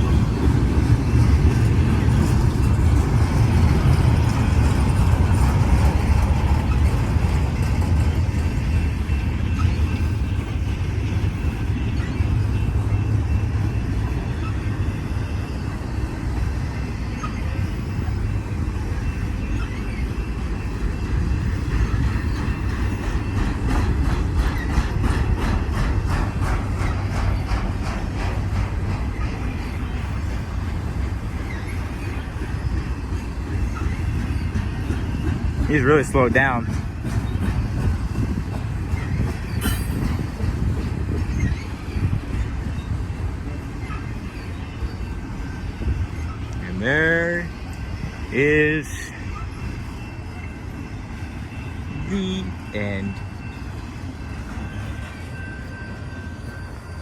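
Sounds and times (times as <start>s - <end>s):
freight cars rumbling on rail: 0.0s - 57.0s.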